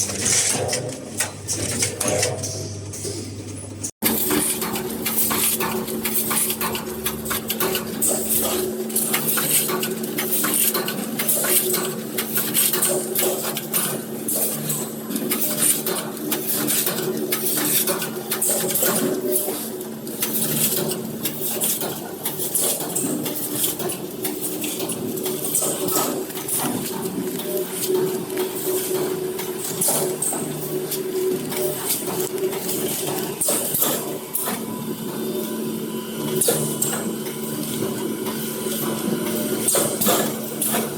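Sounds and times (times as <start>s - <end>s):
machine parts clicking and clattering: 0.0s - 34.6s.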